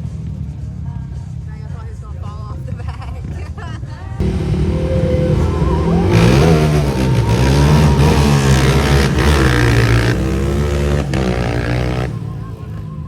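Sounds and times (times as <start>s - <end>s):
atv engines revving: 0.0s - 13.0s.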